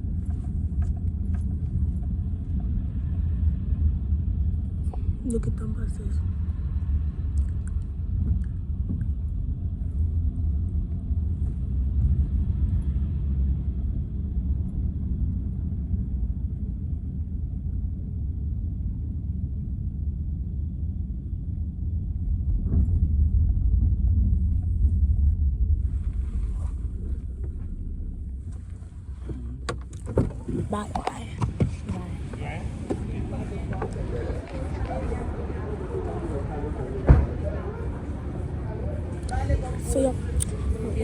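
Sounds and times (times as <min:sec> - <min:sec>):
car rumble inside cabin: 0:00.0 - 0:41.0.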